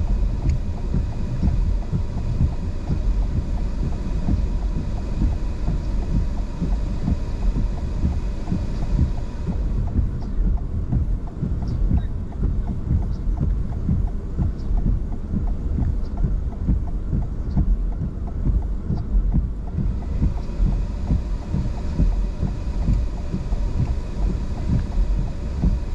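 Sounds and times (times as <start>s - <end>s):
faint high ticks: 0.0s - 25.9s
faint steady hum: 0.0s - 25.9s
low thumps: 0.0s - 25.9s.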